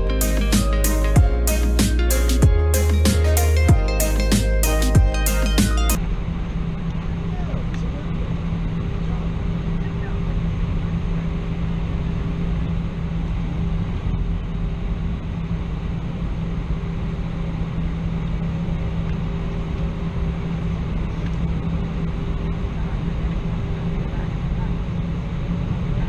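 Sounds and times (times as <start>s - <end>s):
constant low hum: 0.0s - 26.0s
engine and airflow rush: 0.0s - 26.0s.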